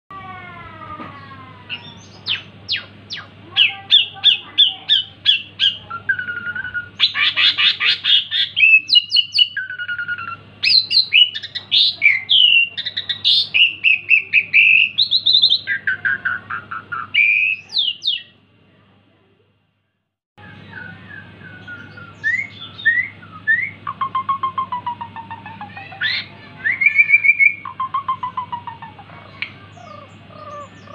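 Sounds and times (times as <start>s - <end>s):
starling singing: 1.2s - 18.4s, 20.4s - 30.9s.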